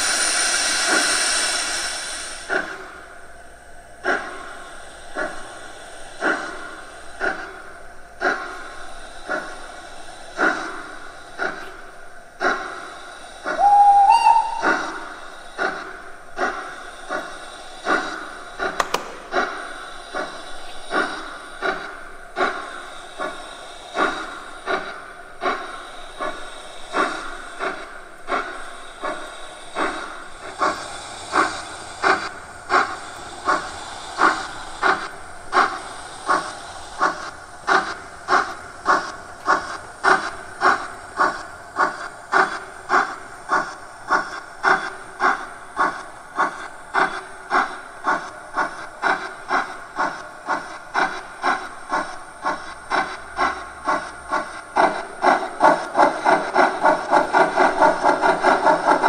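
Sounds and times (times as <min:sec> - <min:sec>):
steady hiss: 0:00.0 - 0:59.0
steam locomotive chuffs from speaker: 0:00.0 - 0:59.0.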